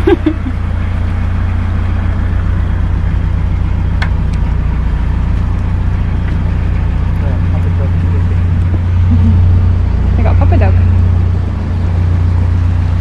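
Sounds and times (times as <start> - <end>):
diesel boat engine humming: 0.0 - 13.0.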